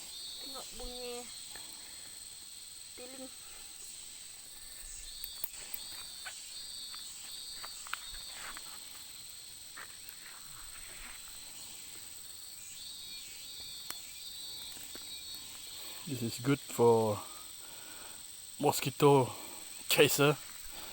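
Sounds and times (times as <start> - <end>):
insects trilling: 0.0 - 20.9
pulsing insect trill: 0.0 - 20.9.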